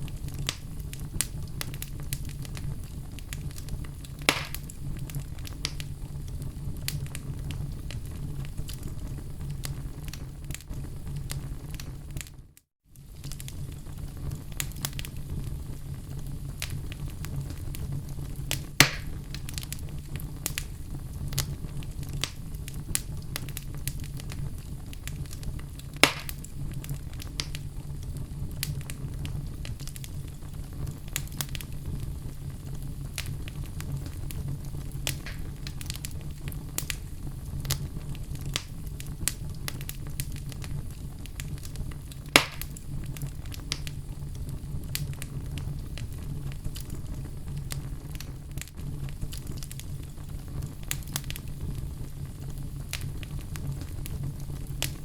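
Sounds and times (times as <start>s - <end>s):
fire crackling in fireplace: 0.0s - 55.0s
loud pops of fire: 0.0s - 55.0s.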